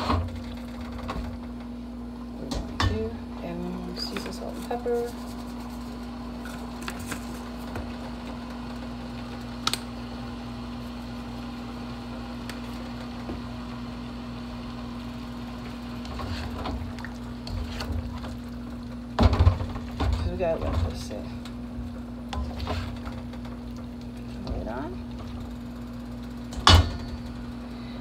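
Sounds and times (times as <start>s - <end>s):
appliance hum: 0.0s - 28.0s.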